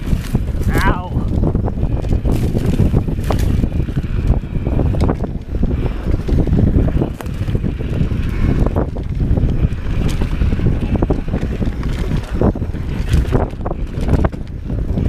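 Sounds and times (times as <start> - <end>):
bike rattling over bumps: 0.0 - 15.0
wind buffeting microphone: 0.0 - 15.0.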